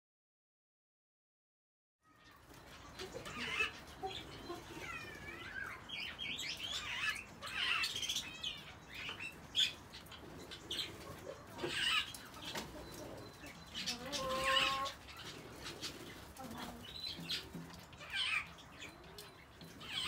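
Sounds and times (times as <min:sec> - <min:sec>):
birds chattering and squealing: 0:02.0 - 0:20.0.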